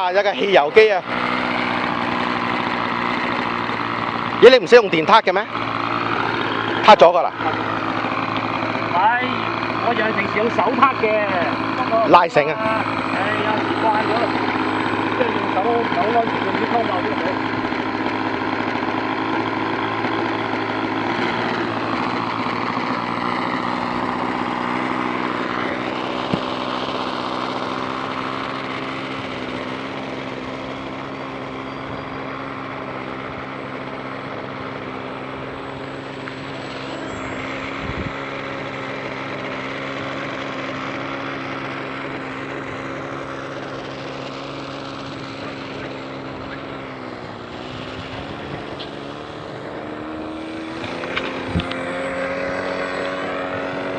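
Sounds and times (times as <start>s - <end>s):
model airplane engine buzzing: 0.0s - 53.9s.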